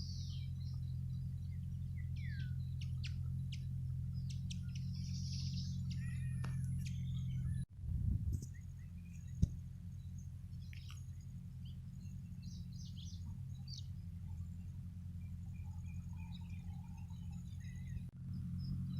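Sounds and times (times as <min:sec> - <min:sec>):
small birds chirping: 0:00.0 - 0:07.7, 0:08.3 - 0:18.9
low rumble: 0:00.0 - 0:18.9.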